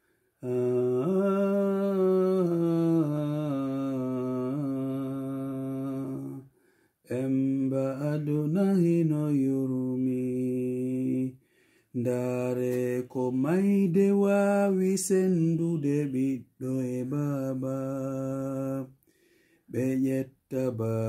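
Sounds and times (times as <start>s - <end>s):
man chanting: 0.4s - 6.4s, 7.1s - 11.4s, 12.0s - 18.9s, 19.7s - 21.0s.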